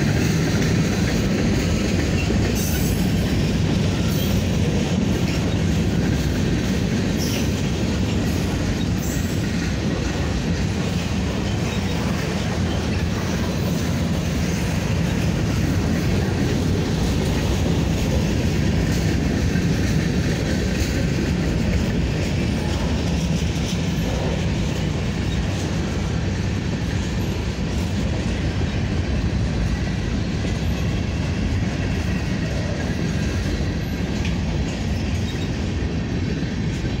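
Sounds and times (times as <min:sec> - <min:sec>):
train wheels rolling on rails: 0:00.0 - 0:37.0.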